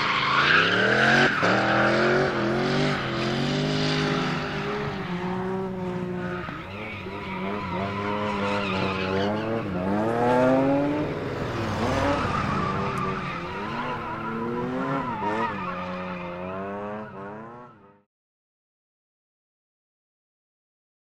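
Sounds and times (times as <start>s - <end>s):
car engine revving: 0.3s - 17.7s.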